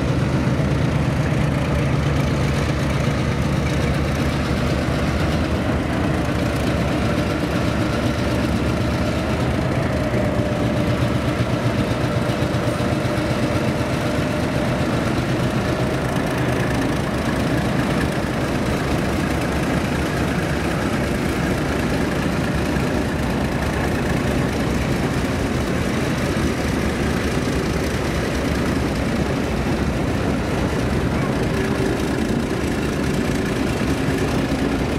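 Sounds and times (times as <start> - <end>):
diesel locomotives passing: 0.0 - 34.9.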